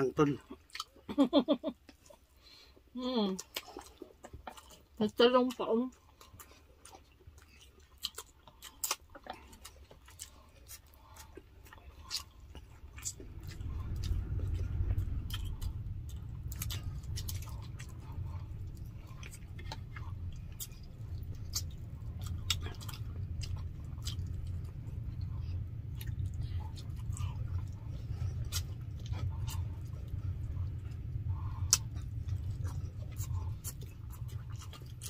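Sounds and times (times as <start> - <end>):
people chewing: 0.2 - 35.0
low rumble: 5.9 - 35.0.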